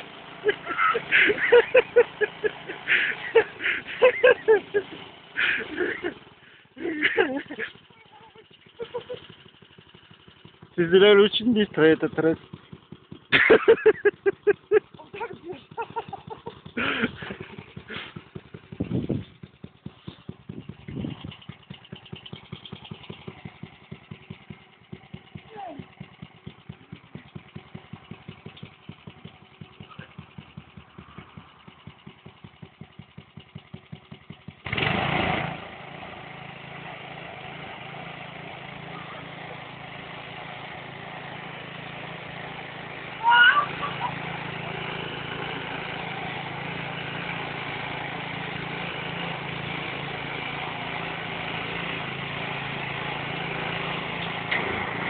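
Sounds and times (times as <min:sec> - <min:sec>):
tiller engine running: 0:00.0 - 0:55.0.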